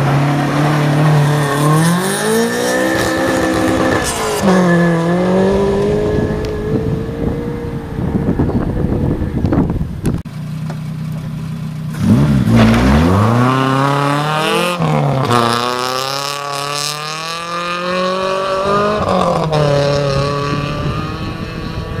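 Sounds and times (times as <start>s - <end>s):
gravel and tyres rushing: 0.0s - 22.0s
rally car engine revving: 0.0s - 22.0s.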